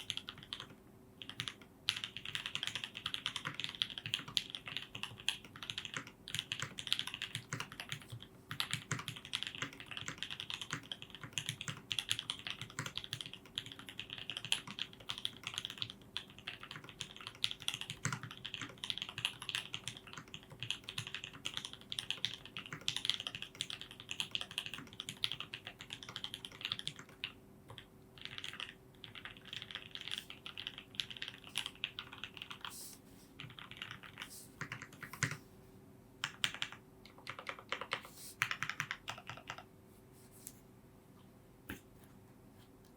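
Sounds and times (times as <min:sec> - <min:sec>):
mechanical keyboard typing: 0:00.0 - 0:32.7, 0:33.4 - 0:35.4, 0:36.2 - 0:39.7.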